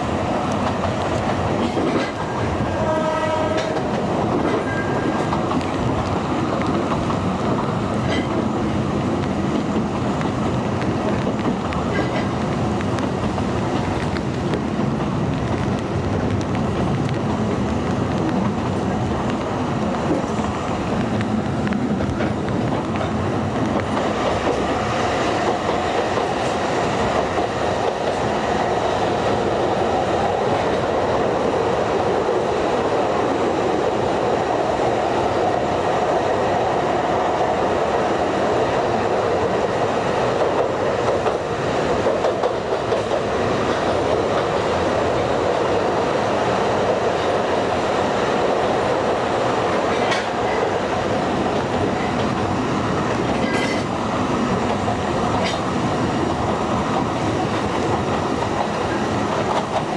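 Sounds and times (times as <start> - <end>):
train wheels rumbling and rattling: 0.0 - 59.9.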